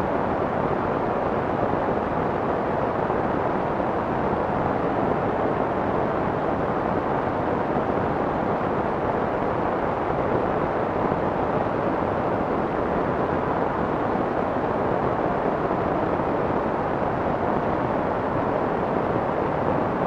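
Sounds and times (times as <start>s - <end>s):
soft white noise: 0.0s - 20.0s.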